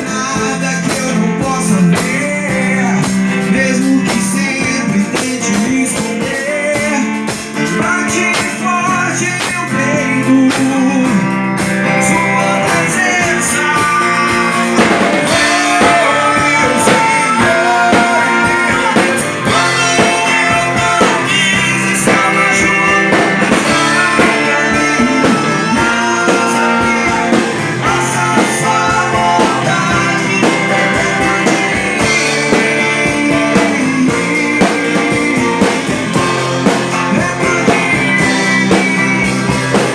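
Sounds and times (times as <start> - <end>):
bass: 0.0 - 39.9
drums playing a steady beat: 0.0 - 39.9
electric guitar: 0.0 - 39.9
melodic lead line: 0.0 - 39.9.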